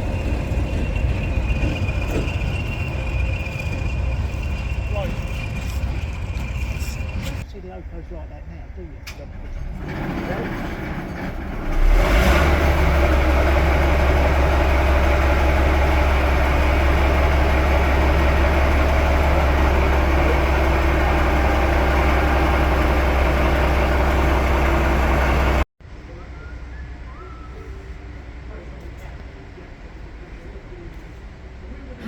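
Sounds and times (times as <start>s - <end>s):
diesel locomotive engine droning: 0.0s - 32.0s.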